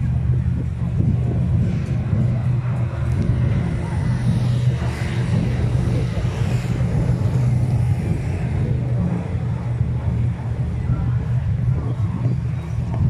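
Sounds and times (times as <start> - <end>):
street noise: 0.0 - 13.0
vehicle engine running: 0.0 - 13.0.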